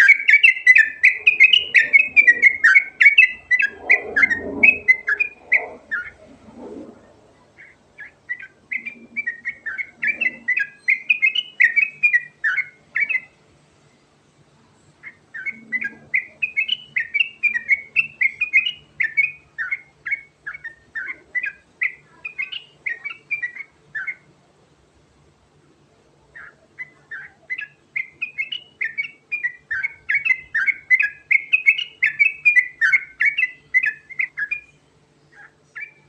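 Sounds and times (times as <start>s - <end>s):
bulbul chattering song: 0.0s - 6.3s, 7.4s - 14.0s, 14.9s - 24.4s, 26.2s - 36.0s.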